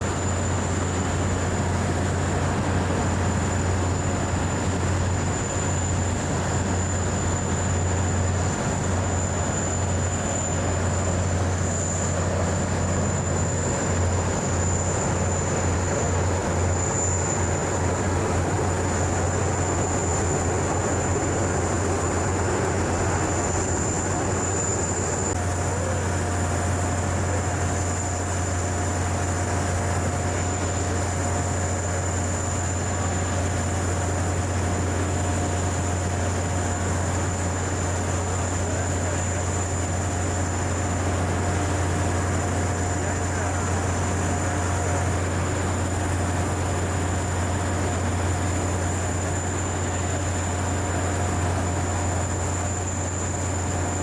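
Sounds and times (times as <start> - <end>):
helicopter rotors droning: 0.0 - 54.0
high turbine whine: 0.0 - 54.0.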